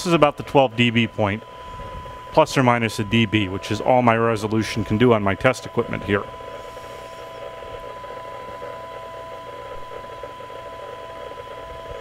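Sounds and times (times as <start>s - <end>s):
low hum: 0.0s - 12.0s
steady test tone: 0.0s - 12.0s.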